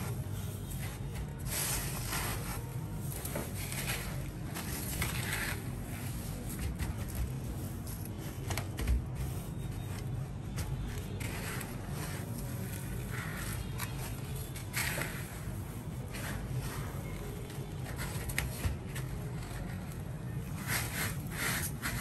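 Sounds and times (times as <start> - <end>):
breadcrumbs rustling and crunching: 0.0 - 22.0.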